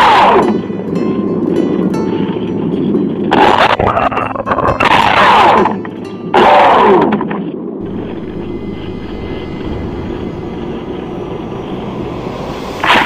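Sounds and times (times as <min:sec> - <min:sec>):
wind rush: 0:00.0 - 0:05.2, 0:07.2 - 0:13.0.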